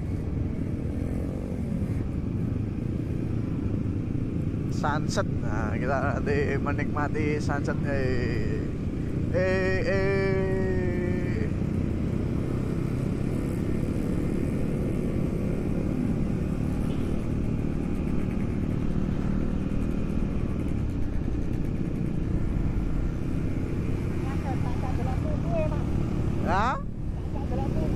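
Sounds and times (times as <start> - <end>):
motorcycle engine and road rumble: 0.0 - 27.9.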